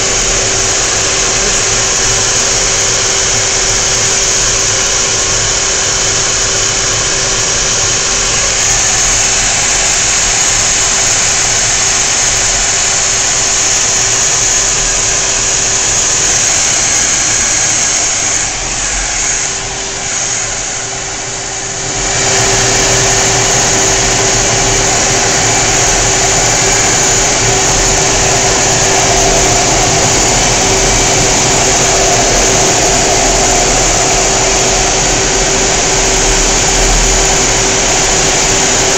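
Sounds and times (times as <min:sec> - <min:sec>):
jet engines roaring: 0:00.0 - 0:38.9
thin steady whine: 0:00.0 - 0:38.9.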